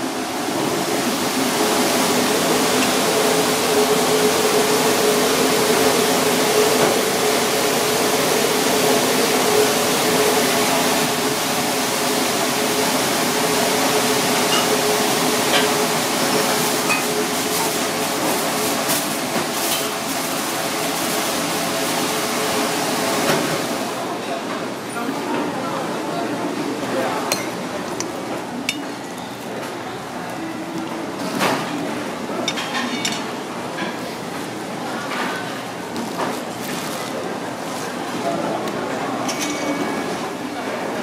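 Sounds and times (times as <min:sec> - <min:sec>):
kitchen ventilation and burners hum: 0:00.0 - 0:41.0.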